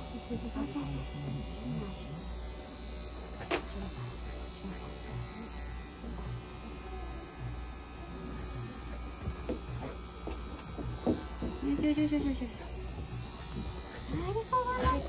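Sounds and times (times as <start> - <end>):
pet clipper buzzing: 0.0 - 15.0.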